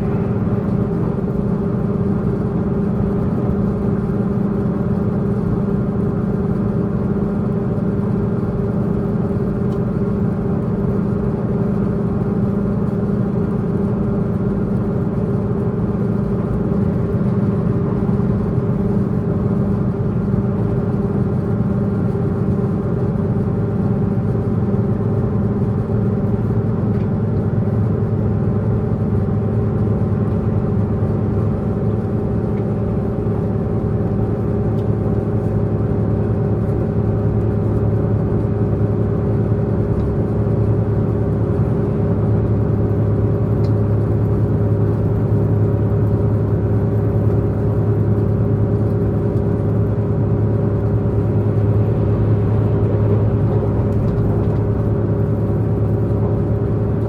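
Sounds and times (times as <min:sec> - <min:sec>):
train wheel and rail noise: 0:00.0 - 0:06.8, 0:11.4 - 0:57.0
train engine drone: 0:00.0 - 0:57.0.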